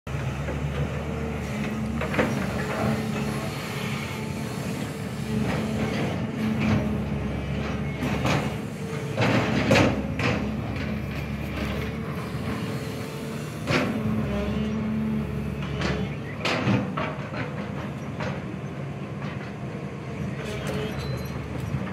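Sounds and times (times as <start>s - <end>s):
excavator diesel engine running: 0.1s - 21.9s.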